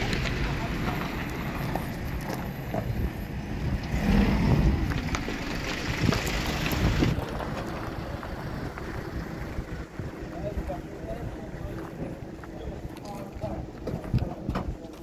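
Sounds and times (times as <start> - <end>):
vehicle noise: 0.0 - 15.0
wind: 0.0 - 15.0.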